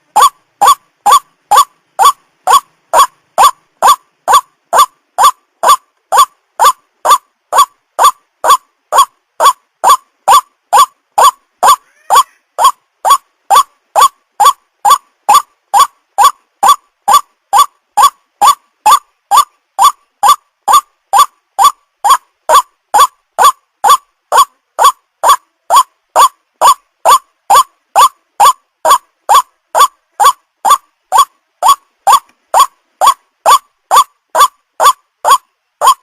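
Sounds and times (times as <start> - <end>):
waterhen kwak call: 0.1 - 36.0.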